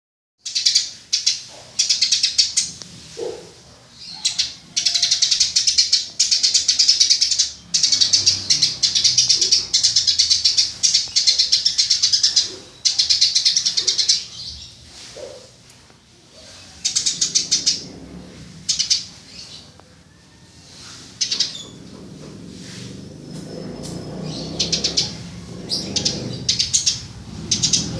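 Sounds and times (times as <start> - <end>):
sparrow chirping: 0.4 - 15.6, 16.4 - 19.8, 20.5 - 27.9.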